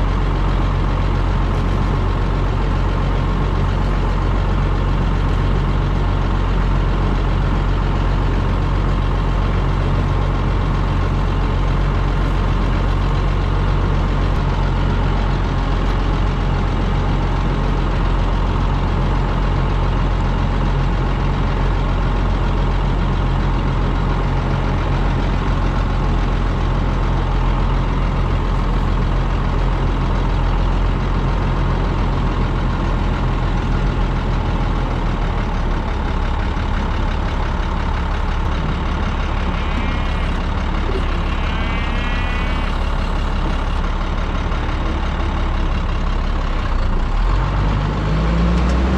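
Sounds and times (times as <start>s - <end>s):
large engine droning: 0.0s - 48.9s.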